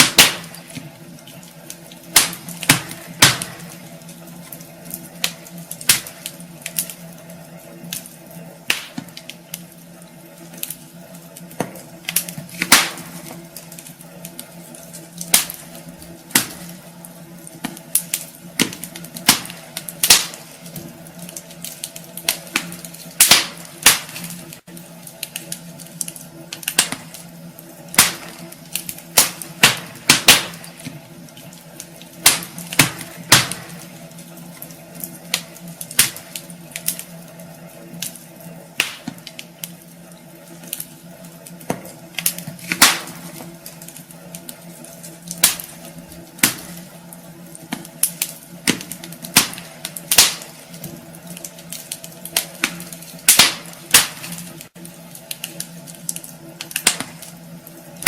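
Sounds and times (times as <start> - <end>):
low steady hum: 0.0 - 58.0
wood fire crackling: 0.0 - 58.0.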